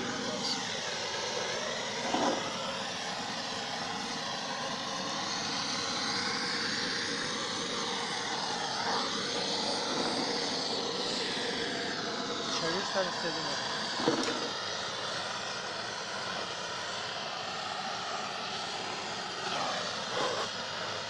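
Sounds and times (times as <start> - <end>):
gas blowtorch hissing: 0.0 - 21.0.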